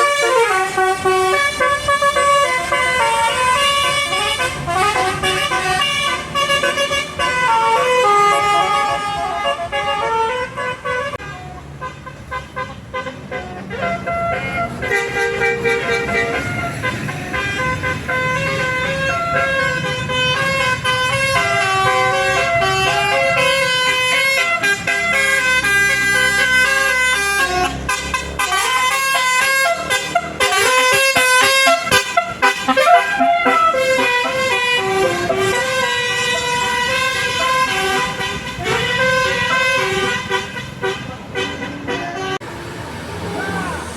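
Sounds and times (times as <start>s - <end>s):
bus melody horn: 0.0s - 42.7s
bus engine running: 0.0s - 43.9s.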